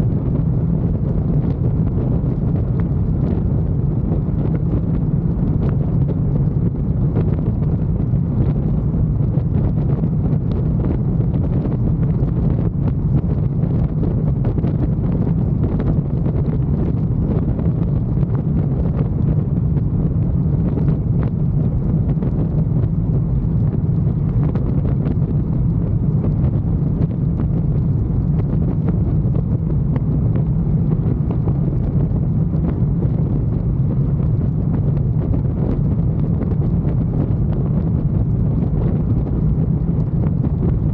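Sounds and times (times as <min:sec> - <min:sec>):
motorcycle engine drone: 0:00.0 - 0:40.9
wind rushing over microphone: 0:00.0 - 0:40.9.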